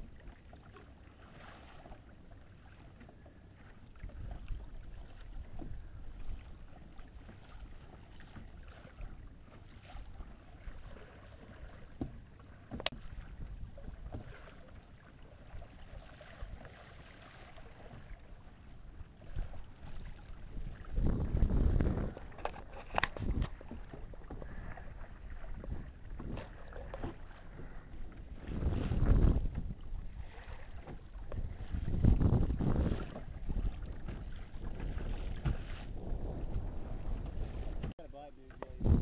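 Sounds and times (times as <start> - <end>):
water lapping against kayak hull: 0.0 - 39.0.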